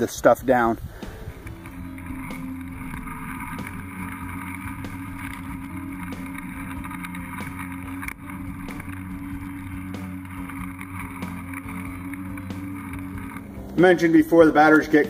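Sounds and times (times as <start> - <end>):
electric lawn mower humming: 0.7 - 15.0.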